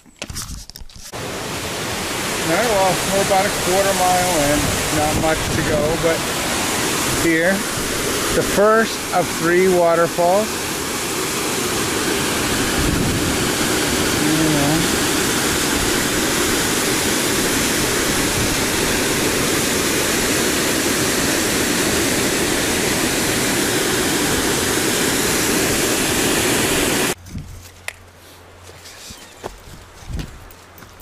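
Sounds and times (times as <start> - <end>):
waterfall roaring: 1.2 - 27.2.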